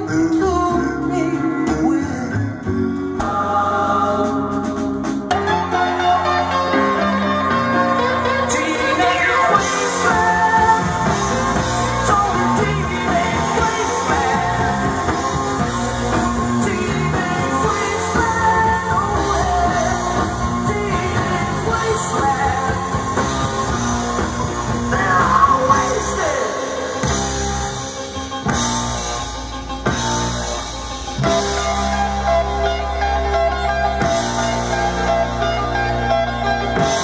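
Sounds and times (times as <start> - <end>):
rock music with singing: 0.0 - 37.0.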